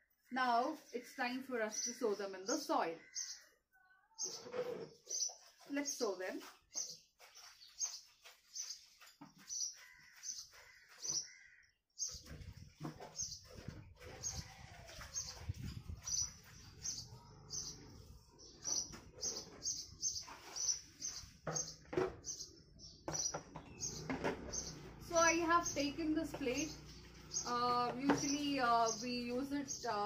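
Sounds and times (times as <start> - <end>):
small bird chirping: 3.1 - 5.7, 6.7 - 11.4, 12.0 - 30.0.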